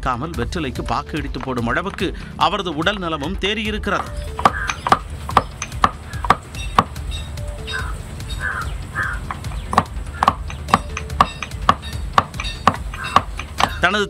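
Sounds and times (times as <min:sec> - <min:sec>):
pestle pounding in mortar: 0:00.8 - 0:08.0, 0:09.2 - 0:14.0.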